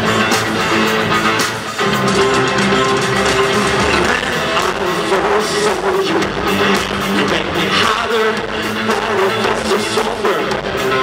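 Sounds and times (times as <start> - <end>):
electric bass: 0.0 - 11.0
electro-rock band playing: 0.0 - 11.0.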